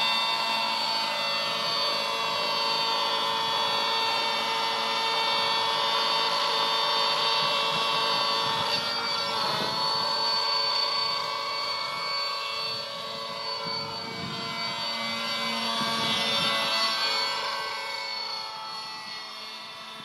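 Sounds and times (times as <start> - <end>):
model helicopter engine whine: 0.0 - 20.0.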